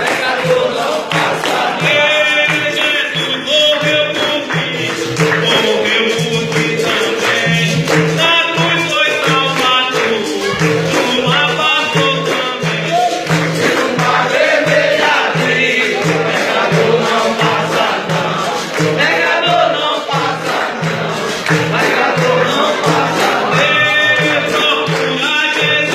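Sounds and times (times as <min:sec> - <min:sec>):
berimbau and pandeiro rhythm: 0:00.0 - 0:25.9
group singing: 0:00.0 - 0:25.9.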